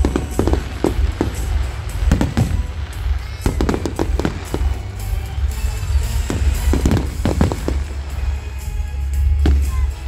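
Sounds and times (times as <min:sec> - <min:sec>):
firework shells bursting: 0:00.0 - 0:08.7
music: 0:00.0 - 0:10.0.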